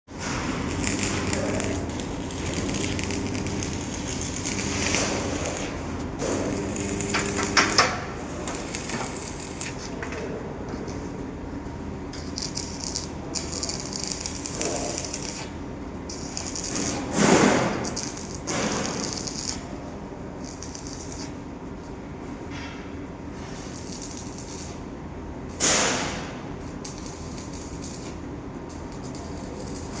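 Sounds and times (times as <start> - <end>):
arc welding crackling: 0.1 - 21.8, 23.6 - 30.0
electrical hum: 0.1 - 30.0.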